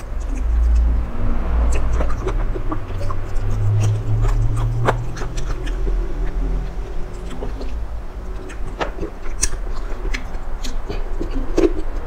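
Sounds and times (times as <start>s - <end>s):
low rumble: 0.0s - 10.4s
chewing with mouth clicks: 0.0s - 12.0s.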